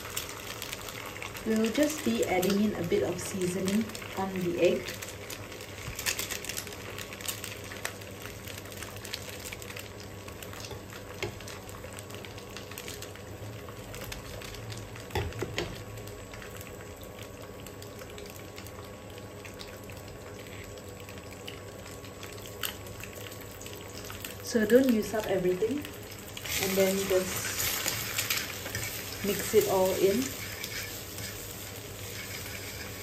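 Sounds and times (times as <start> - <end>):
egg sizzling in oil: 0.0 - 33.0.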